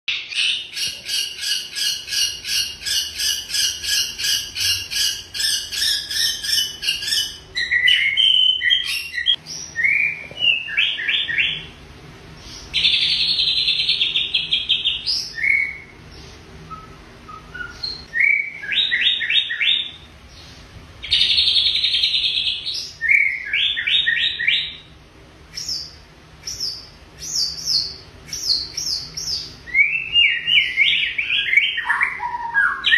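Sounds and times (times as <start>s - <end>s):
songbird singing: 0.1s - 32.9s.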